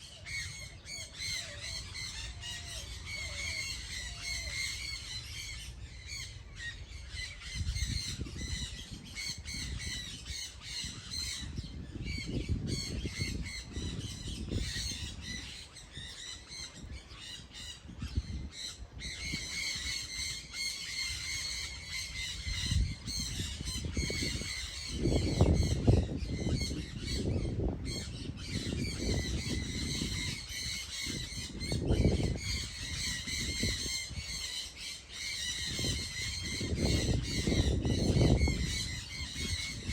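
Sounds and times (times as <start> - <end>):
birds squawking and chattering: 0.0 - 39.9.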